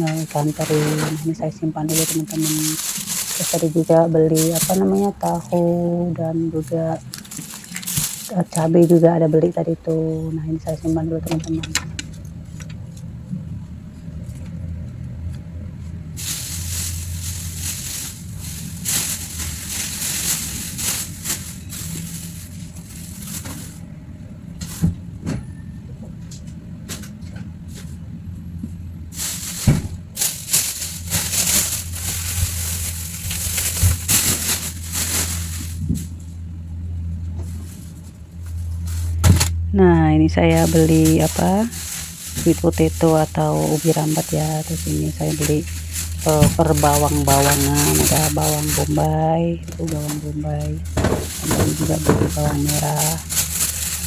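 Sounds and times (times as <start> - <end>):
plastic bags crinkling: 0.0 - 13.1, 16.0 - 25.1, 29.0 - 39.6, 40.3 - 54.0
steady low hum: 0.0 - 54.0.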